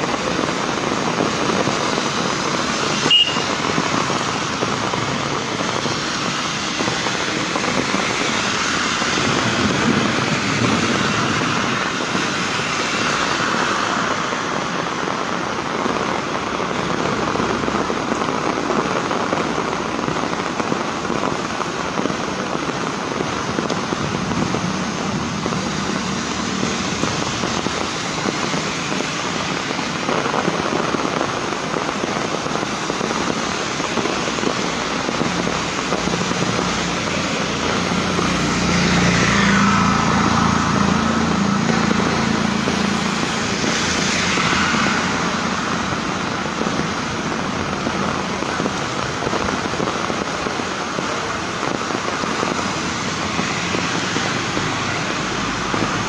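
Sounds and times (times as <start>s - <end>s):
heavy rain on wet street: 0.0s - 56.0s
vehicle swishing past on wet road: 0.0s - 56.0s.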